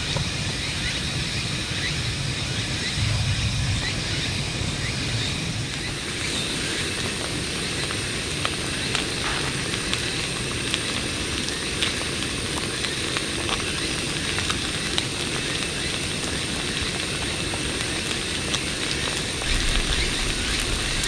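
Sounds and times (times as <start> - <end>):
campfire crackling and popping: 3.8 - 21.0.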